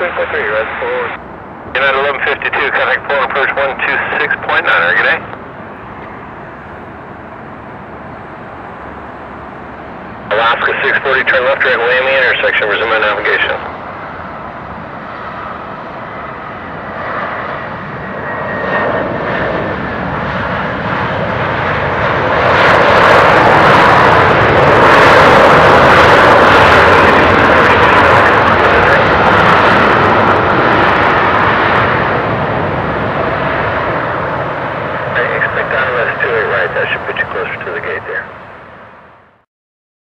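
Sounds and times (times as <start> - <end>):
jet engine roar: 0.0 - 39.4
jet engine whine: 0.0 - 39.5.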